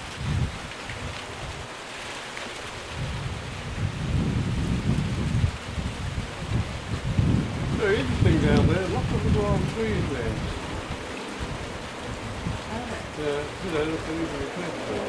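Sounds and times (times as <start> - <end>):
steady rain falling: 0.0 - 15.0
wind rumble on microphone: 0.0 - 15.0.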